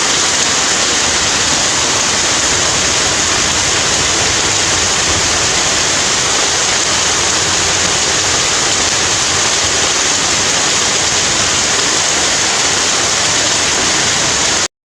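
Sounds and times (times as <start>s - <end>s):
heavy rain pouring: 0.0s - 14.7s.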